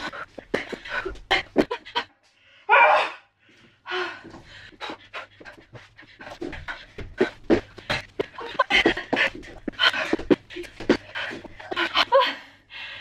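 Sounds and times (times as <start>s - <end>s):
woman panting and gasping: 0.0s - 13.0s.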